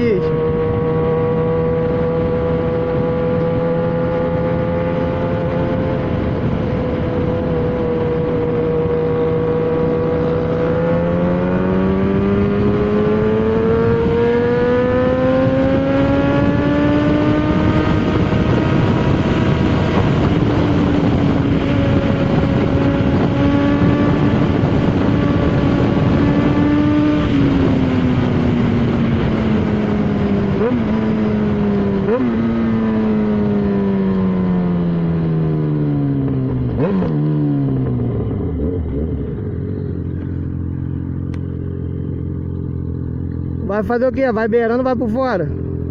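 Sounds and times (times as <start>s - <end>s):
heavy wind rush: 0.0s - 45.9s
motorcycle engine accelerating: 0.0s - 45.9s.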